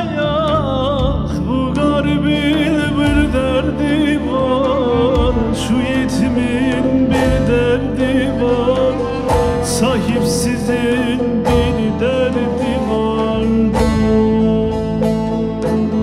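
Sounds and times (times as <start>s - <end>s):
hand drum: 0.0s - 16.0s
keyboard: 0.0s - 16.0s
man singing ornamented melody: 0.0s - 16.0s
plucked lute: 0.0s - 16.0s.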